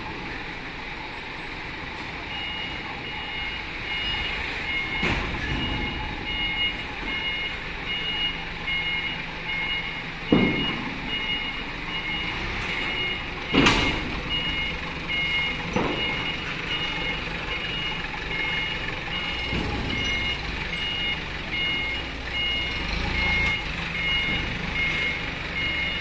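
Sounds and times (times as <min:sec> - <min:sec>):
forklift engine running: 0:00.0 - 0:26.0
reversing alarm beeping: 0:02.2 - 0:26.0.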